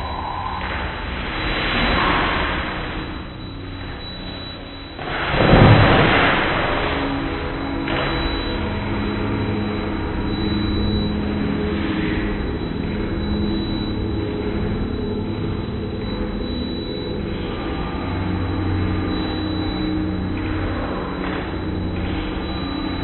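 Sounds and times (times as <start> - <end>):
slowed low drone with hiss: 0.0 - 23.0.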